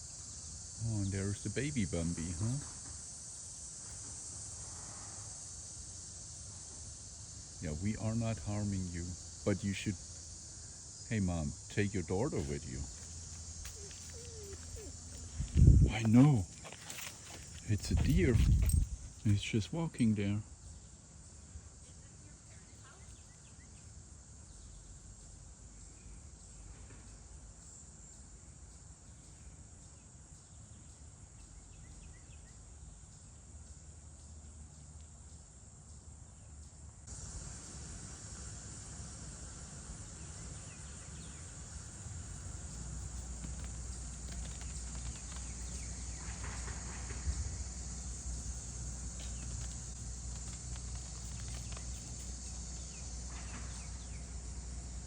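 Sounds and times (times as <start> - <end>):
chorus of insects: 0.0 - 55.0.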